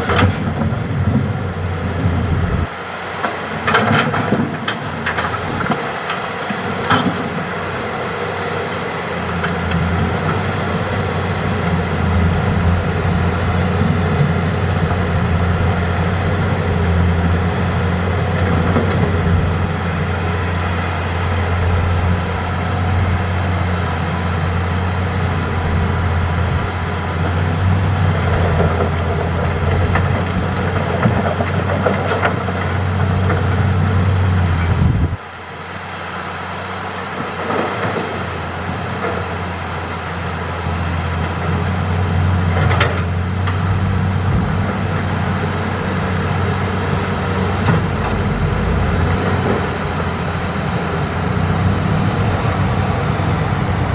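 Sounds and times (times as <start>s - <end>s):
diesel excavator engine running: 0.0s - 53.9s.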